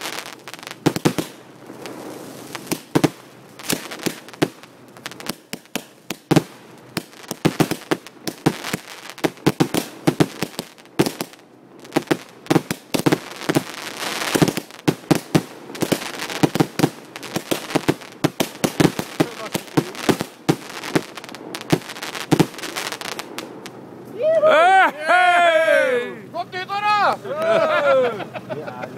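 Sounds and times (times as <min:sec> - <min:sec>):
fireworks bangs: 0:00.0 - 0:27.1
fireworks crackling: 0:00.0 - 0:28.9.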